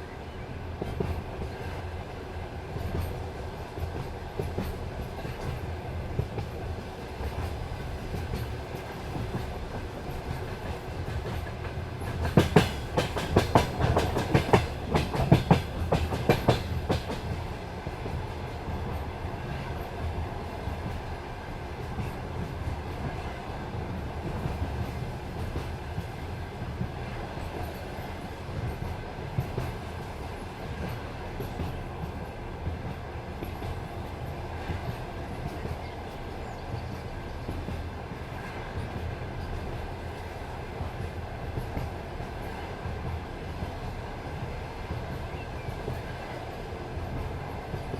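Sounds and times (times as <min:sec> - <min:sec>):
train wheels rumbling on rails: 0:00.0 - 0:47.9
wheels clacking at rail joints: 0:00.7 - 0:47.9.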